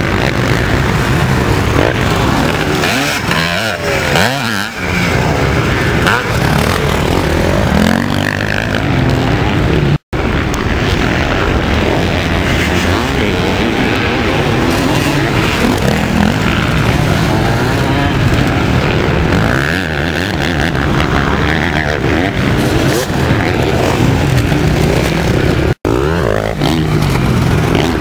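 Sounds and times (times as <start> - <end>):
motocross motorcycles racing: 0.0 - 28.0.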